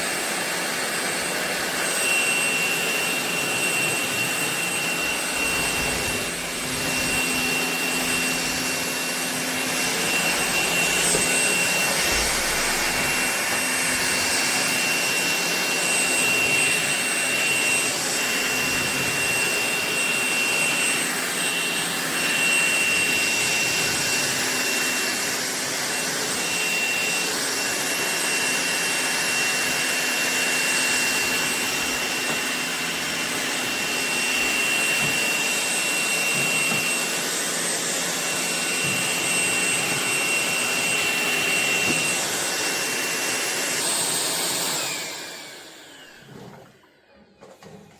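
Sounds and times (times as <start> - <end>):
stick vacuum running: 0.0 - 47.9.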